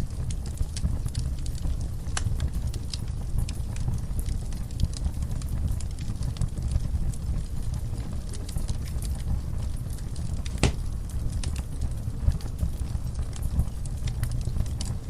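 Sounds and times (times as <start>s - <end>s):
flames low rumble: 0.0s - 15.0s
wood crackling and popping: 0.0s - 15.0s.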